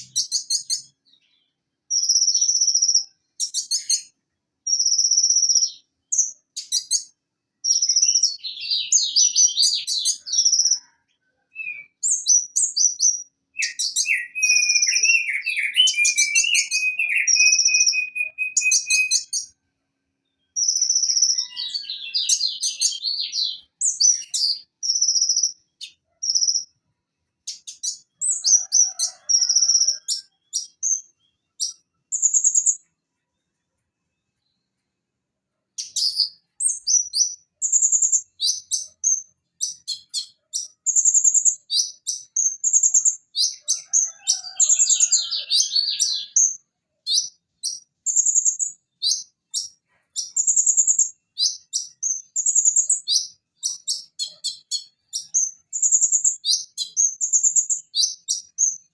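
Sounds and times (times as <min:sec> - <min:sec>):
sunbird singing high chirps: 0:00.0 - 0:19.6, 0:20.2 - 0:26.7, 0:27.4 - 0:32.9, 0:35.8 - 0:58.9.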